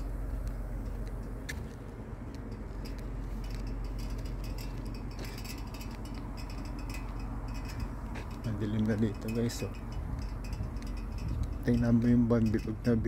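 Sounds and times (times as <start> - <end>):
light ticks and clicks: 0.0 - 13.0
low outdoor rumble: 0.0 - 13.0.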